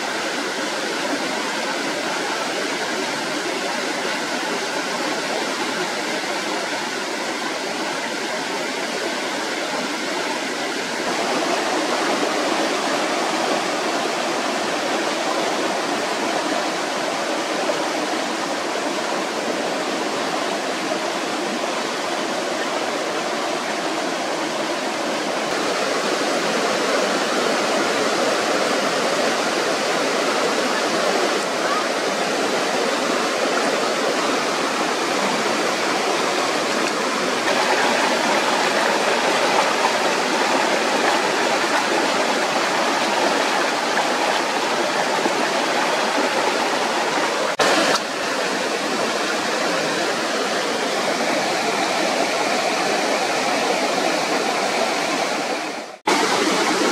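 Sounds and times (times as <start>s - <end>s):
stream water rushing over rocks: 0.0s - 56.9s.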